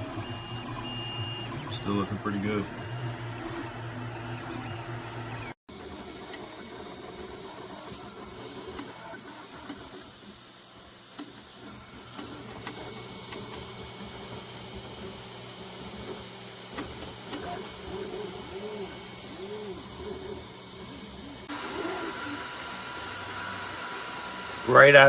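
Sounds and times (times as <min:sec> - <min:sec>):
stepper motors whining: 0:00.0 - 0:25.0.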